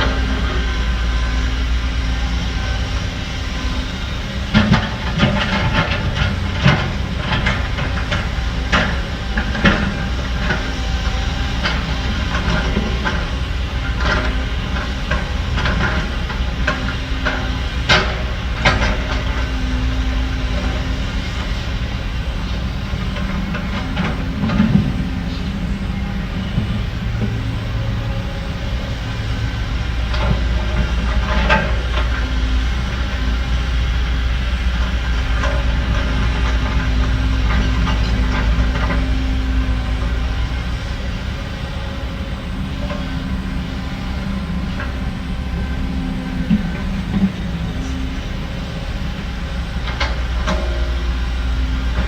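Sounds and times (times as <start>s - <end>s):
diesel machinery running: 0.0s - 52.0s
metal clanks and knocks: 4.4s - 40.5s, 42.6s - 52.0s.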